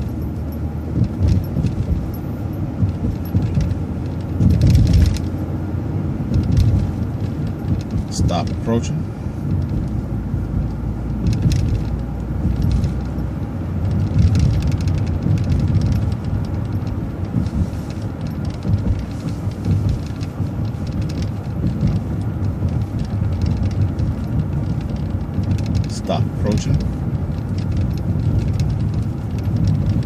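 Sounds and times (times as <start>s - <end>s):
bus engine and road rumble: 0.0s - 30.0s
faint clicks and rattles: 0.0s - 30.0s.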